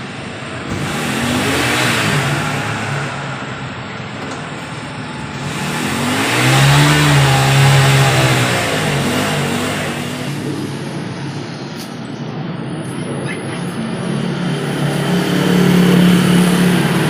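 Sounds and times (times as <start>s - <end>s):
motor vehicle passing: 0.0s - 11.4s, 13.8s - 17.0s
traffic noise: 0.0s - 17.0s.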